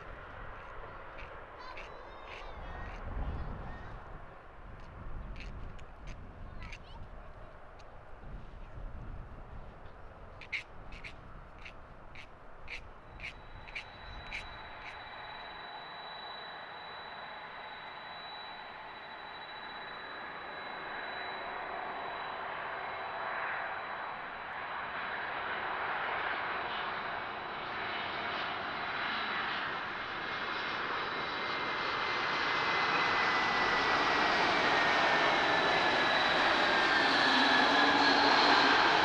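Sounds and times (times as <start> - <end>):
jet engines landing: 0.0 - 39.0.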